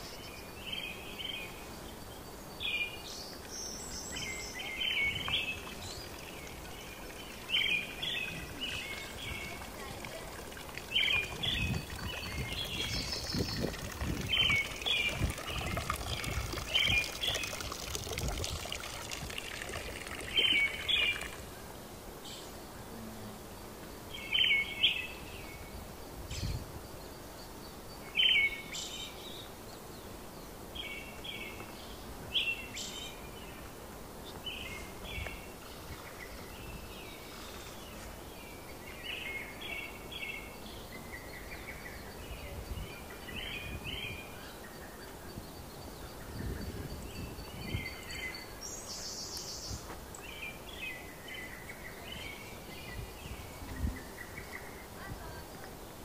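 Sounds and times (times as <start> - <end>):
outdoor background hiss: 0.0 - 56.0
songbird chirping: 0.0 - 56.0.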